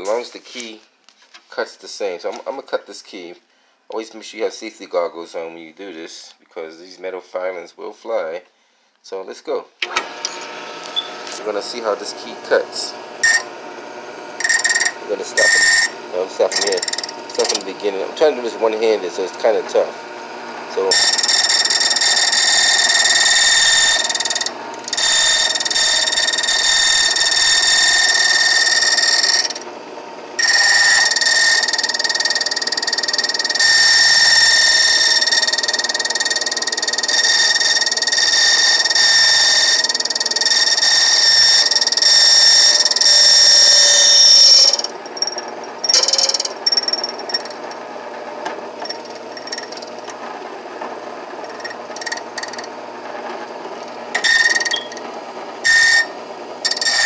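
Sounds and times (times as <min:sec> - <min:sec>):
key cutting machine screeching: 0:09.8 - 0:57.0.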